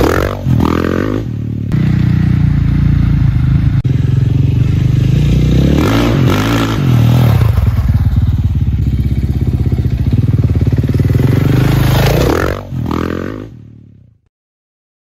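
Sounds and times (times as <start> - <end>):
engine revving: 0.0 - 13.7
motorcycle engine running: 0.0 - 14.2.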